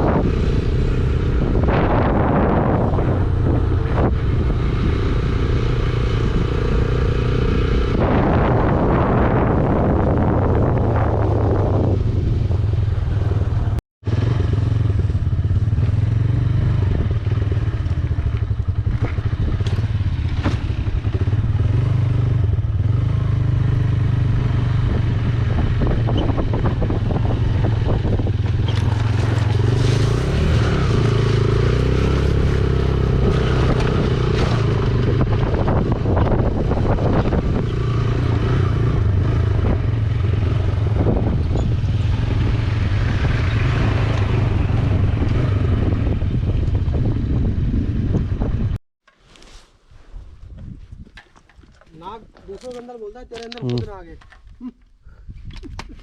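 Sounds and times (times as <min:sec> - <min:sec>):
motorcycle engine running: 0:00.0 - 0:48.8
road and wind noise: 0:00.0 - 0:56.0.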